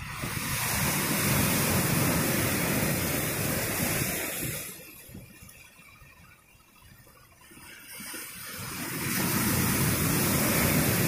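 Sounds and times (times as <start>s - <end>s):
ocean wave breaking on rocks: 0.0s - 11.0s.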